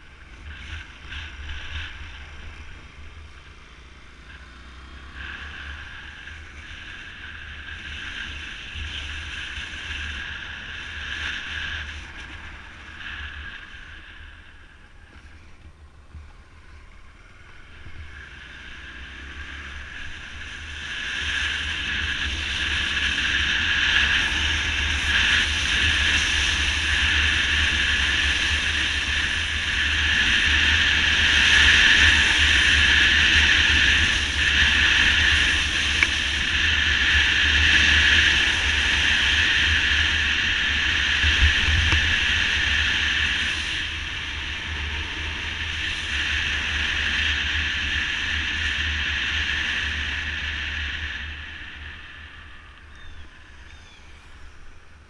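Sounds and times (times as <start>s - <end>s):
motorcycle engine and road noise: 0.0s - 55.0s.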